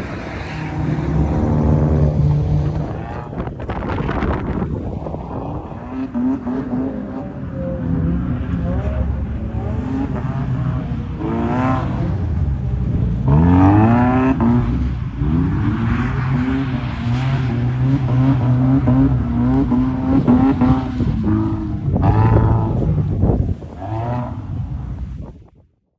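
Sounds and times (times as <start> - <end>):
car engine revving: 0.0 - 25.3.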